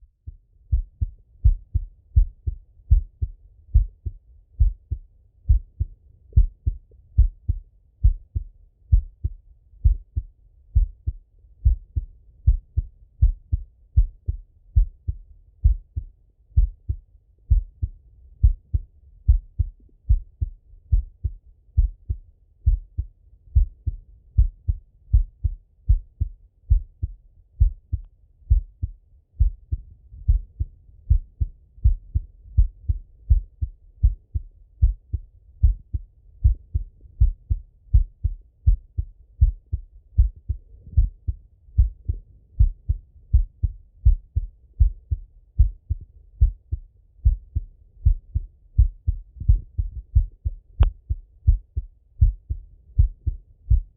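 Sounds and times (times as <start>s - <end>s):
heartbeat through stethoscope: 0.0s - 53.9s.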